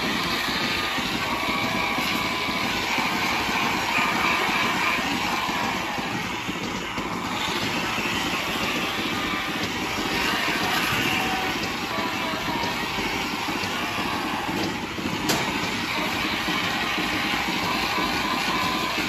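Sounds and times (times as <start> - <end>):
milking machinery drone and hiss: 0.0 - 19.0.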